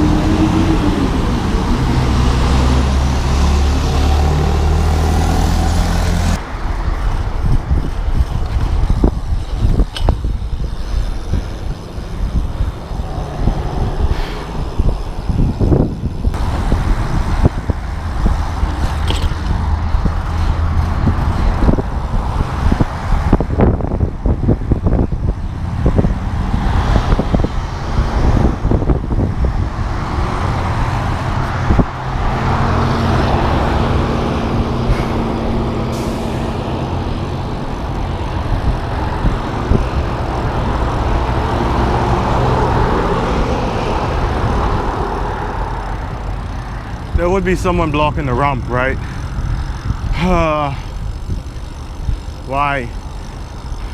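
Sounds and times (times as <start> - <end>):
road traffic passing close: 0.0 - 53.9
steady engine hum: 0.0 - 53.9.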